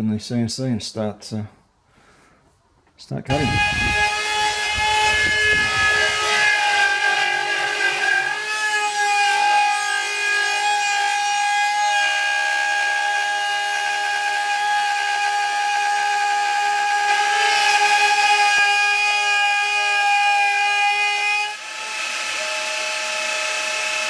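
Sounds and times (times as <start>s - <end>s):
router spindle whining: 3.3s - 24.0s.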